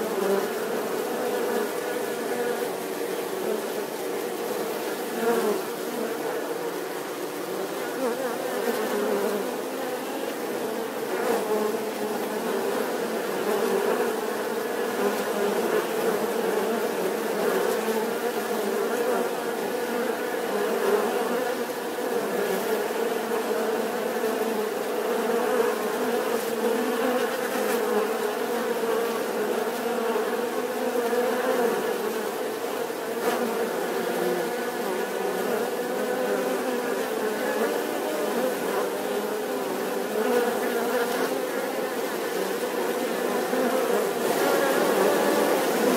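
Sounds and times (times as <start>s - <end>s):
bees buzzing: 0.0s - 45.9s.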